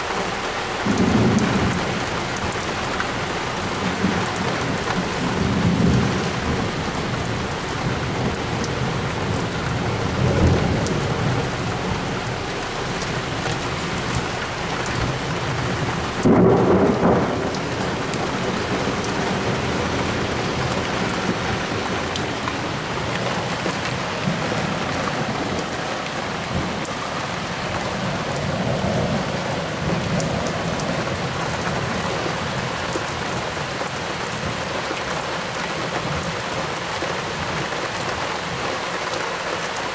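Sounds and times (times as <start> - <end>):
steady rain hiss: 0.0 - 39.9
thunder rumbling: 0.7 - 34.6.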